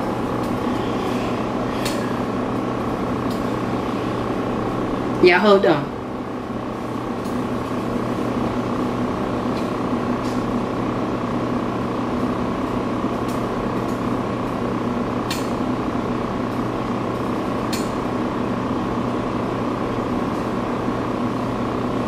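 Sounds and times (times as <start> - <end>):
household background hum: 0.0 - 22.0.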